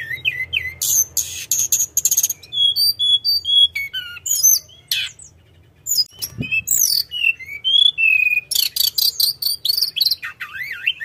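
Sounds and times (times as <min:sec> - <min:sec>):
songbird singing whistled trills: 0:00.0 - 0:11.0.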